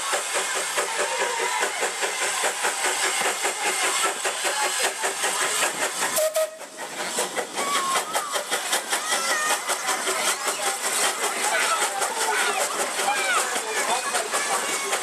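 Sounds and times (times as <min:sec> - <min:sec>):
steam locomotive exhaust beating: 0:00.0 - 0:15.0.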